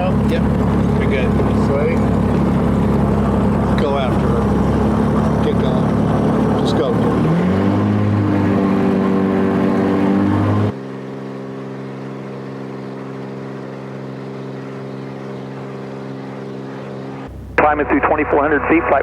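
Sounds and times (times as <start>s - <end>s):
aircraft engine and propeller: 0.0s - 19.0s.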